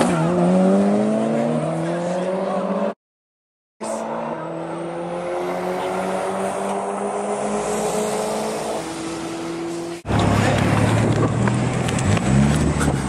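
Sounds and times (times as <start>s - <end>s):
racing car engines at high revs: 0.0s - 3.0s, 3.8s - 13.0s.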